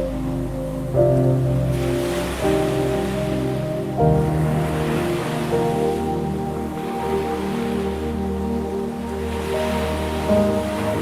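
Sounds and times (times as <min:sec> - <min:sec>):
calm instrumental music: 0:00.0 - 0:11.0
ocean waves: 0:00.0 - 0:11.0.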